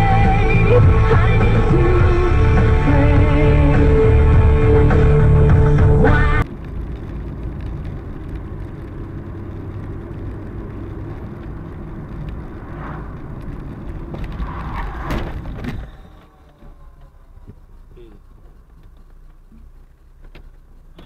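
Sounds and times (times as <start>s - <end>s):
car road noise rumble: 0.0s - 21.0s.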